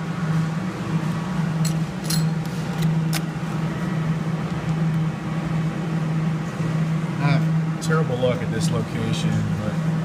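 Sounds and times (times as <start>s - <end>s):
claw machine electrical hum: 0.0s - 10.0s.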